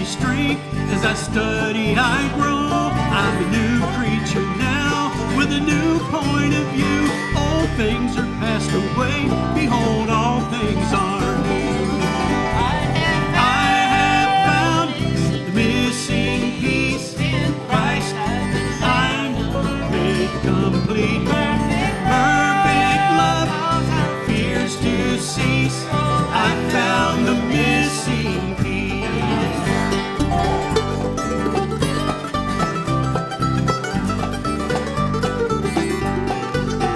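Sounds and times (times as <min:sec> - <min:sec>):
banjo: 0:00.0 - 0:36.9
mandolin: 0:00.0 - 0:36.9
picked guitar: 0:00.0 - 0:36.9
steady bass: 0:00.0 - 0:36.9.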